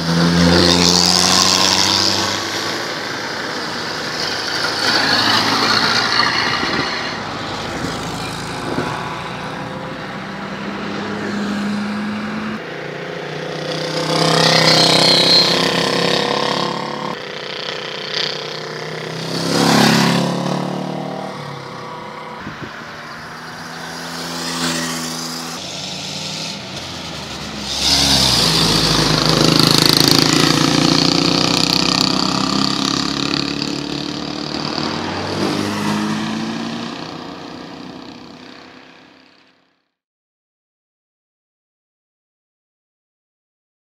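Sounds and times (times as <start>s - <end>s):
motorcycles driving past: 0.0s - 39.6s.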